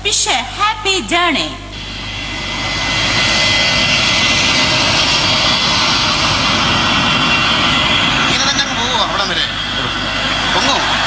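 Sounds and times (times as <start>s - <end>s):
jet airliner taking off: 1.7s - 11.0s.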